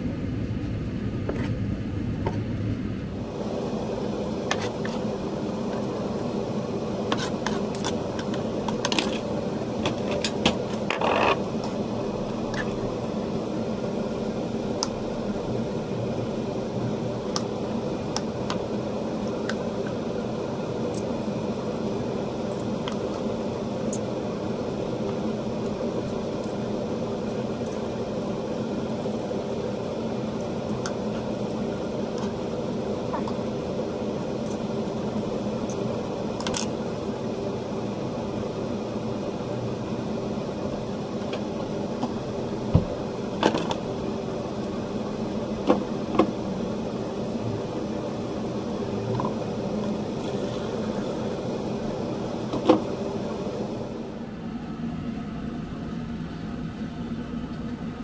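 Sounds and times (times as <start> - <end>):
appliance motor humming: 3.2 - 54.4.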